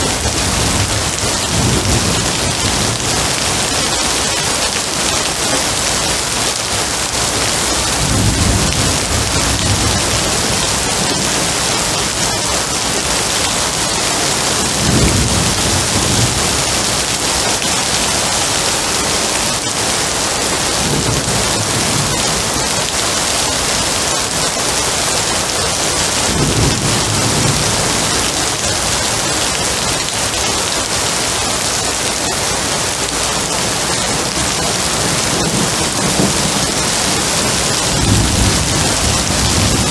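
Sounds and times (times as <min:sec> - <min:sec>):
heavy rain falling: 0:00.0 - 0:39.9
thunder rumbling: 0:00.0 - 0:39.9.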